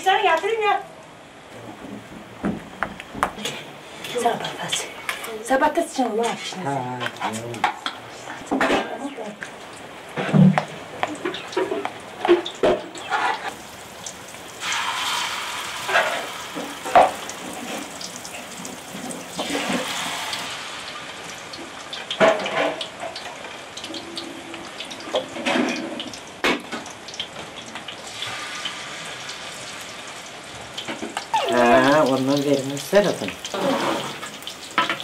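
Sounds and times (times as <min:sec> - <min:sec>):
batter sizzling in hot oil: 0:02.8 - 0:35.0.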